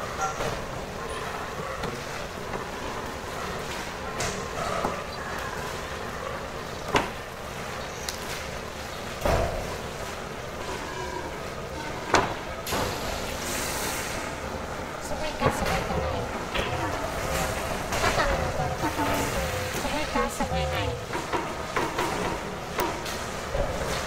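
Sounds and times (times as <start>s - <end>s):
steady room hum: 0.0s - 24.0s.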